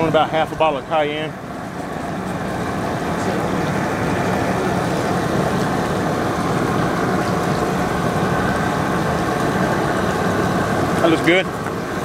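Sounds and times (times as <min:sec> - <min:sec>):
gas burner rushing: 0:00.0 - 0:12.0.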